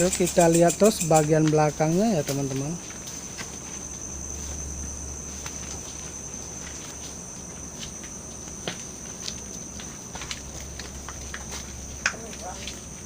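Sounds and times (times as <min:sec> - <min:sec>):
high-pitched insect chorus: 0:00.0 - 0:13.0
footsteps on twigs and undergrowth: 0:01.4 - 0:13.0.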